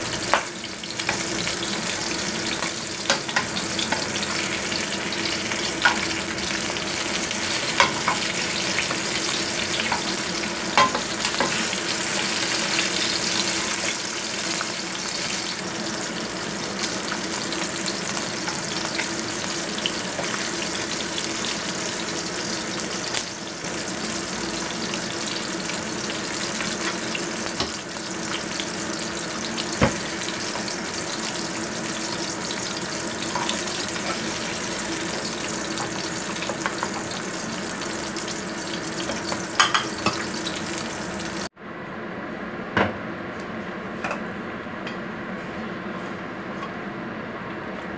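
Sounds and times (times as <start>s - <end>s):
fish sizzling in oil: 0.0s - 41.5s.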